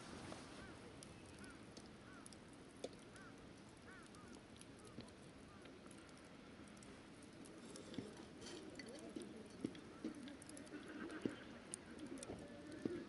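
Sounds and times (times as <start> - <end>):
burning firewood popping: 0.0 - 13.0
campfire crackling: 0.0 - 13.0.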